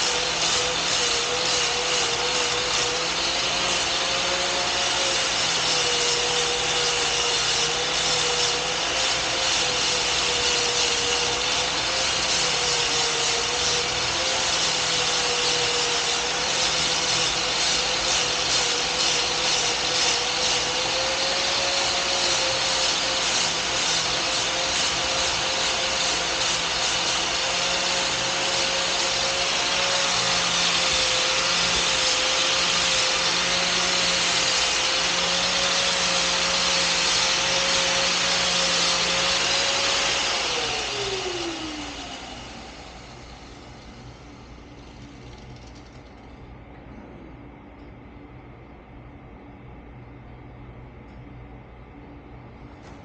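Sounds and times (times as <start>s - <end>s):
power grinder whining: 0.0s - 44.1s.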